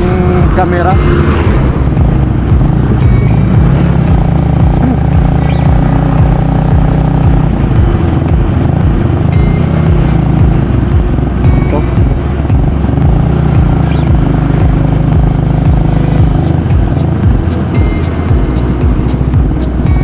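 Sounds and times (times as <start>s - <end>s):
motorcycle engine rumble: 0.0s - 20.0s
steady engine hum: 0.0s - 20.0s.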